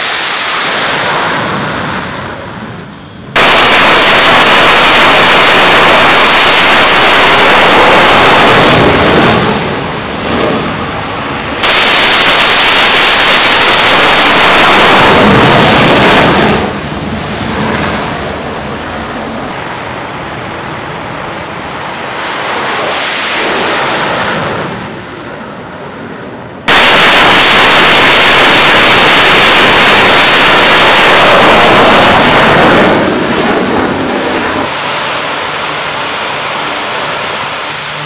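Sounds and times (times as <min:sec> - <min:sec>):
jet engines at full power: 0:00.0 - 0:38.0
quieter jet noise: 0:00.0 - 0:38.0.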